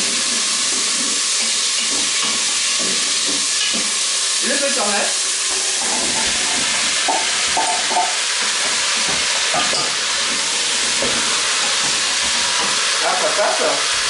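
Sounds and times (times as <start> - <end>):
vegetables sizzling: 0.0 - 14.0.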